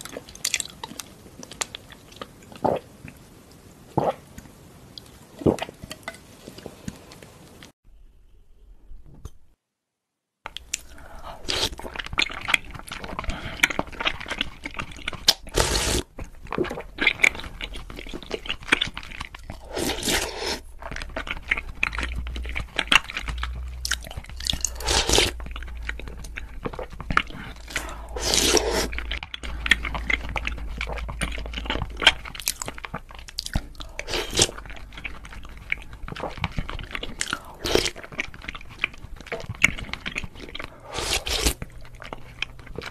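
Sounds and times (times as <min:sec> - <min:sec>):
chewing and wet mouth sounds: 0:00.0 - 0:03.3, 0:10.5 - 0:42.9.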